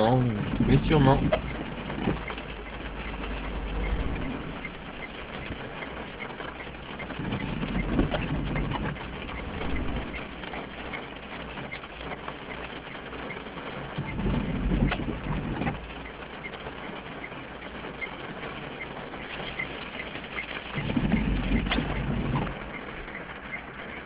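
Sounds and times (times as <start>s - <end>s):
low steady rumble: 0.0s - 24.0s
raindrops tapping on car: 0.0s - 24.0s.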